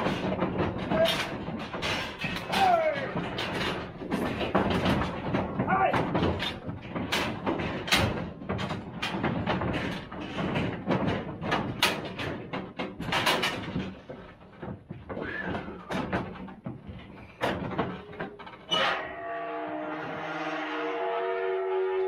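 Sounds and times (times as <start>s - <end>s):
steel gates clanging: 0.0s - 14.4s, 17.1s - 22.0s
hooves knocking on trailer floor: 0.0s - 19.0s.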